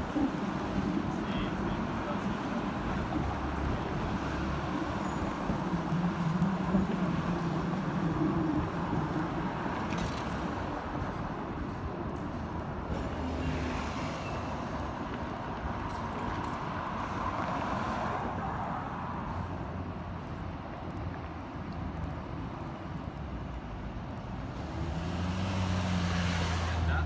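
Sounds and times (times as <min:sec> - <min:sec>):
tram running rumble: 0:00.0 - 0:23.0
road traffic: 0:00.0 - 0:27.0.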